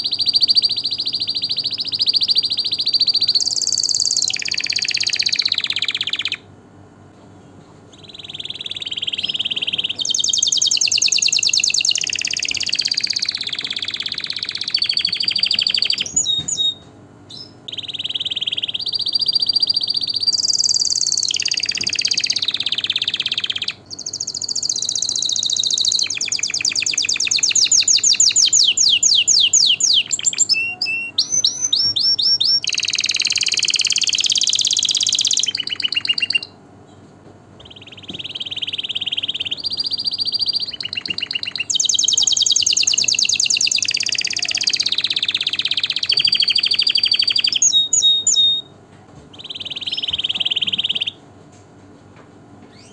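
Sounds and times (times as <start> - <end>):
canary singing trills: 0.0 - 6.5, 7.9 - 36.6, 37.6 - 51.2, 52.7 - 52.9.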